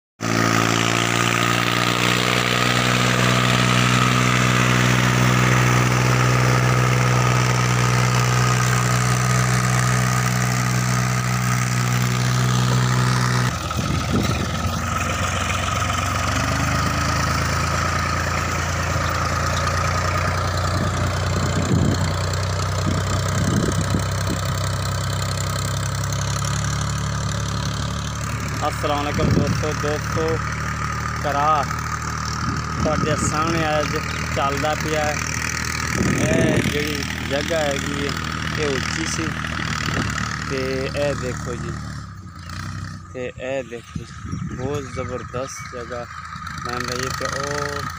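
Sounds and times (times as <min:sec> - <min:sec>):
tractor diesel engine running: 0:00.2 - 0:47.9.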